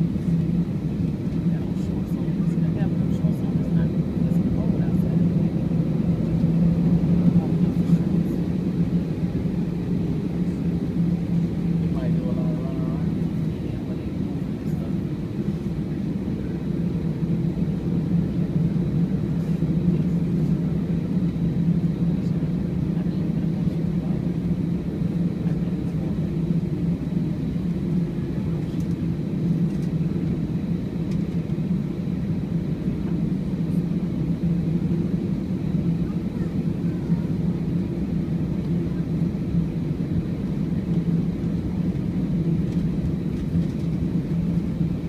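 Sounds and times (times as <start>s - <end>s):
airplane cabin engine hum: 0.0s - 45.0s.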